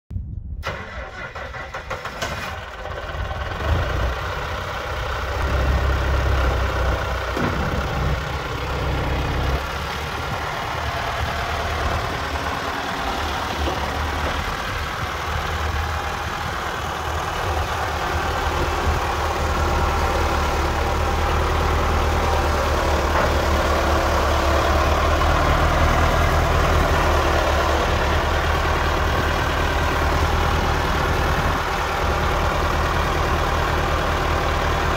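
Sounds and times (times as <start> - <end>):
tractor engine running: 0.6 - 34.9.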